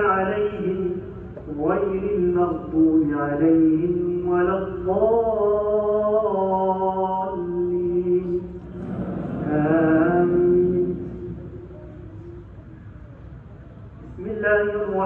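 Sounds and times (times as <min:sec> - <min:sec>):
man chanting recitation: 0:00.0 - 0:12.5, 0:14.1 - 0:15.0.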